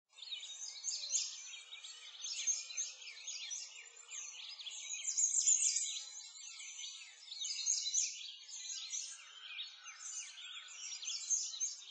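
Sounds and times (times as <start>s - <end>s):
small birds chirping: 0.1s - 11.9s.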